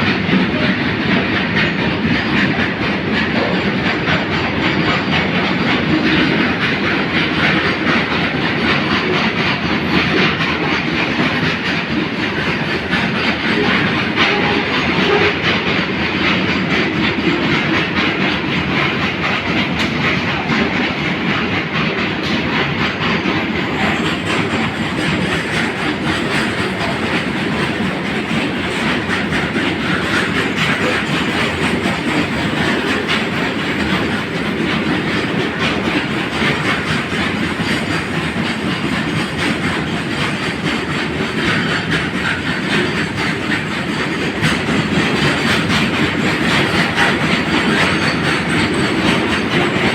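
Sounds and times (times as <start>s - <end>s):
train rumbling past: 0.0s - 49.9s
wheels clattering over rail joints: 0.3s - 49.9s.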